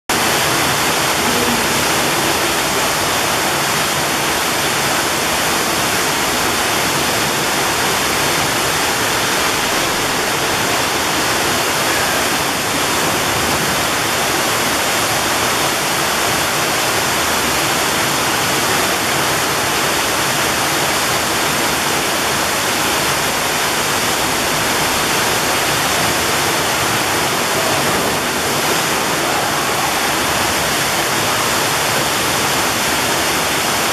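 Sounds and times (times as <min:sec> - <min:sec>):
waterfall pouring into pool: 0:00.1 - 0:33.9.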